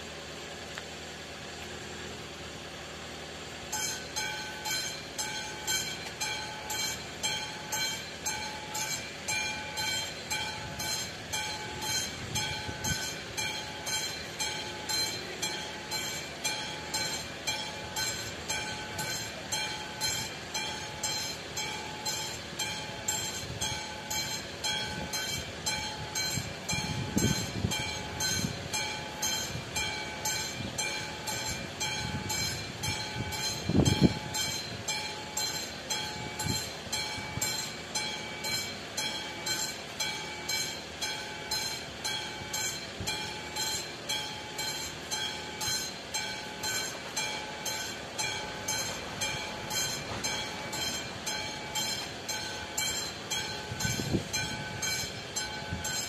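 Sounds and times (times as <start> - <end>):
level crossing bell ringing: 3.7 - 56.0.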